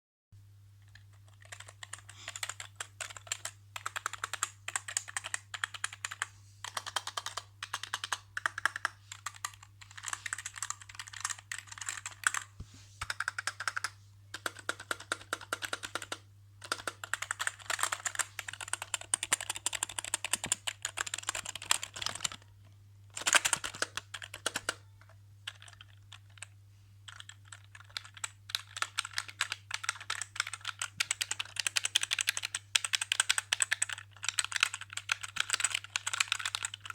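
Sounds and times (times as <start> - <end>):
keyboard typing: 0.8 - 22.5, 23.1 - 36.9.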